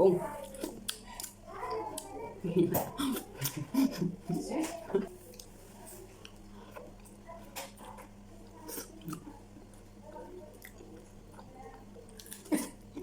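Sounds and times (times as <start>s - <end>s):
person chewing food: 0.0s - 4.1s, 4.9s - 13.0s.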